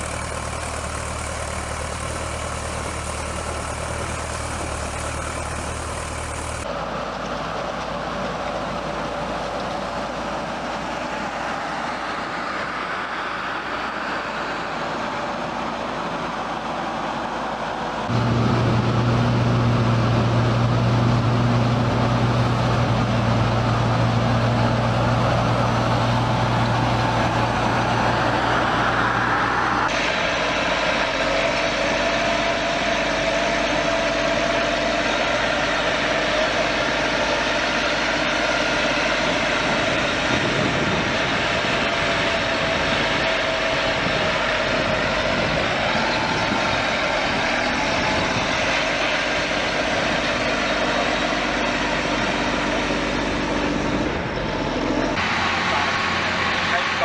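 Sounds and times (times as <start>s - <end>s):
heavy machinery engines running: 0.0s - 57.0s
high engine whine: 0.0s - 57.0s.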